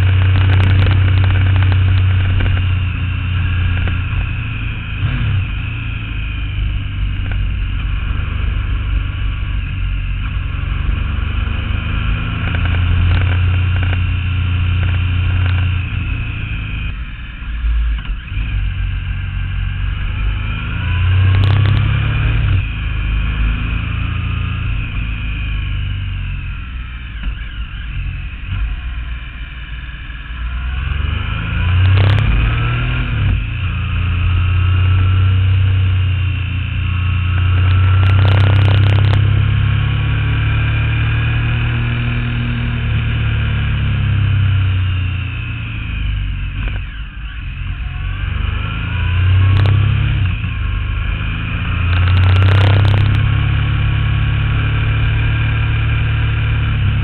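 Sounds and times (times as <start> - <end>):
motorcycle engine under load: 0.0 - 57.0.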